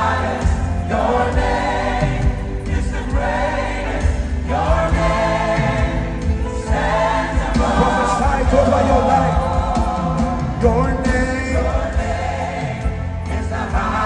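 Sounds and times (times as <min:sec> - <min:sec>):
band and bass playing: 0:00.0 - 0:14.0
choir singing: 0:00.0 - 0:14.0.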